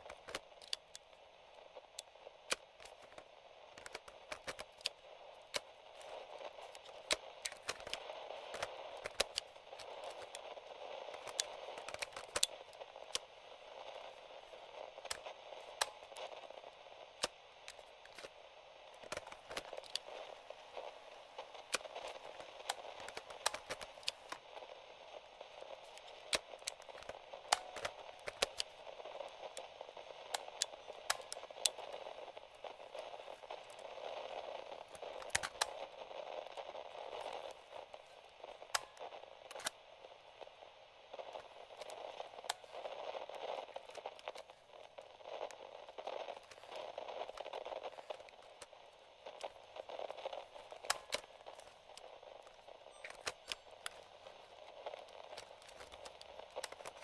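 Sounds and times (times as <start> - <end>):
crackling pops: 0.0 - 57.0
radio static hiss: 0.0 - 57.0.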